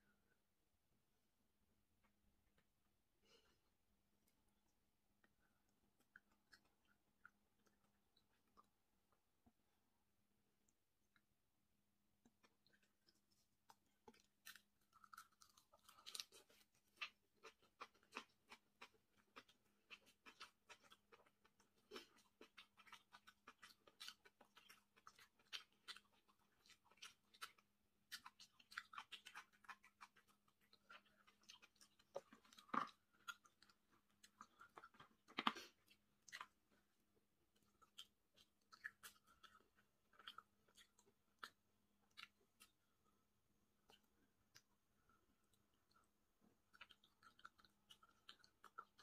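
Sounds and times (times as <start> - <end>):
person chewing: 4.2 - 9.7, 12.2 - 49.0.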